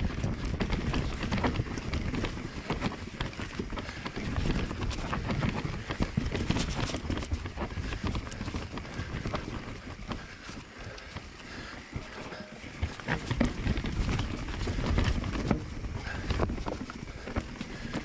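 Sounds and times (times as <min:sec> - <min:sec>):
bike clicking and knocking on roots: 0:00.0 - 0:18.0.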